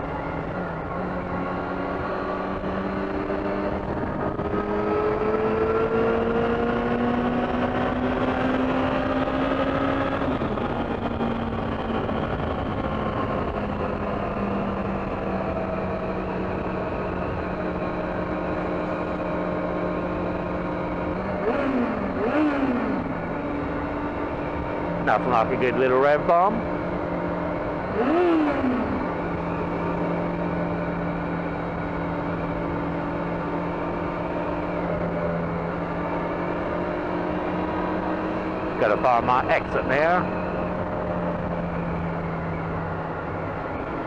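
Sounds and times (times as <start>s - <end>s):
motorcycle engine revving in tunnel: 0.0s - 44.0s.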